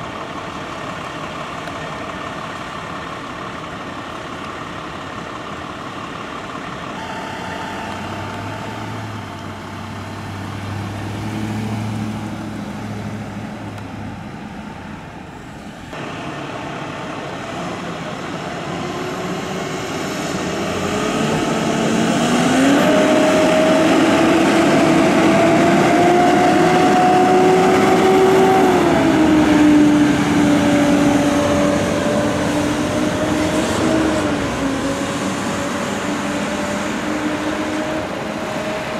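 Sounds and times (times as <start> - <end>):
vehicle engine idling and revving: 0.0 - 38.9.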